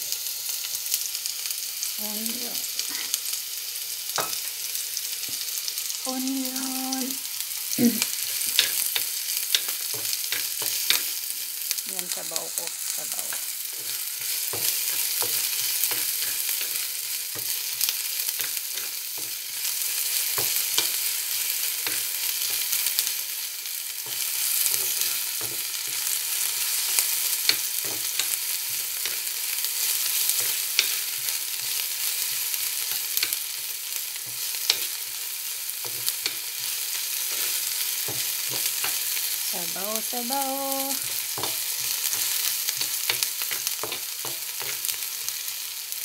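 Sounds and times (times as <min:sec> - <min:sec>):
onion sizzling in oil: 0:00.0 - 0:46.0.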